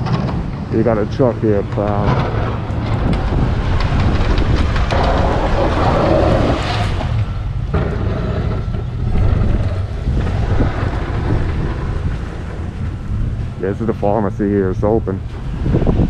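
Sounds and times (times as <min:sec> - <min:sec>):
snowplow truck engine: 0:00.0 - 0:16.0
wind buffeting microphone: 0:00.0 - 0:16.0.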